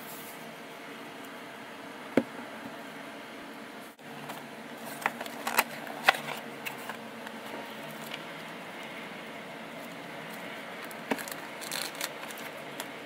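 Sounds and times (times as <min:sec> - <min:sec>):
room hum and hiss: 0:00.0 - 0:13.0.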